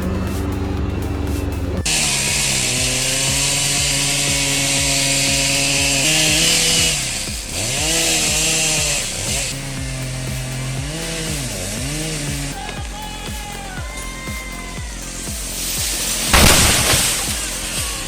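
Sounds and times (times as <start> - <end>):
chainsaw cutting wood: 0.1 - 18.0.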